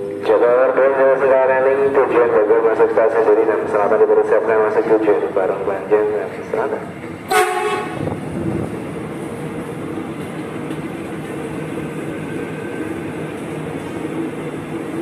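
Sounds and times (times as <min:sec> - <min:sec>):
electric train passing at speed: 0:00.0 - 0:15.0.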